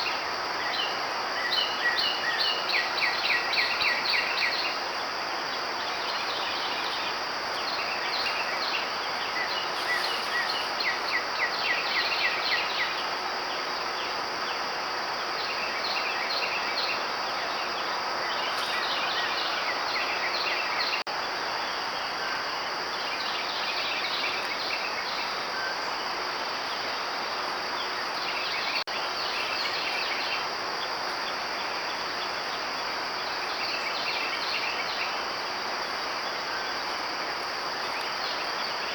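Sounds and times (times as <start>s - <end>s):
insect drone: 0.0s - 38.9s
rapid insect chirping: 0.0s - 38.9s.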